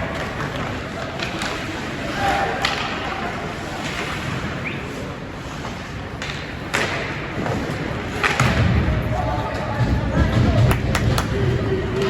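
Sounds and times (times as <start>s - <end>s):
hockey sticks and puck knocks: 0.0s - 4.8s, 5.5s - 12.0s
hollow rink noise: 0.0s - 12.0s.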